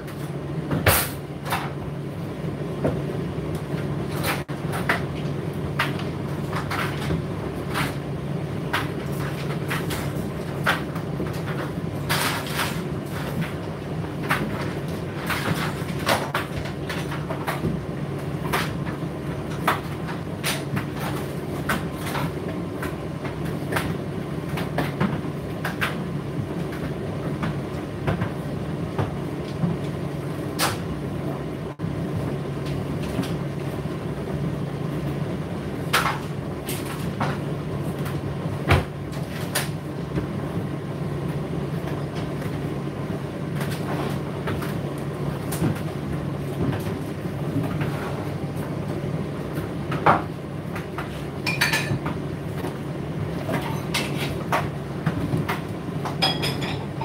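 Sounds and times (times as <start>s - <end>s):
tumble dryer motor hum: 0.0s - 57.0s.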